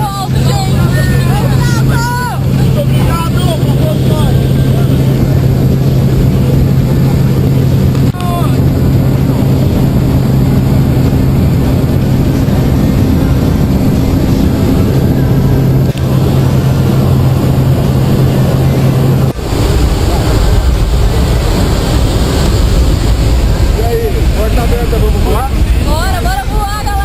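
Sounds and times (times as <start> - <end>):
plane engine drone in cabin: 0.0 - 27.0
rushing wind: 0.0 - 27.0.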